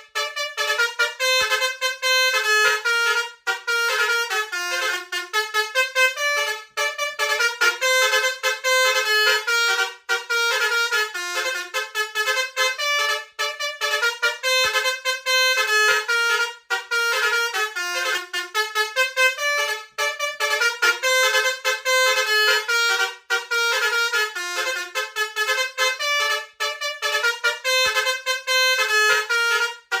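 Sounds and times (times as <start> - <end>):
bus trumpet horn melody: 0.0 - 30.0.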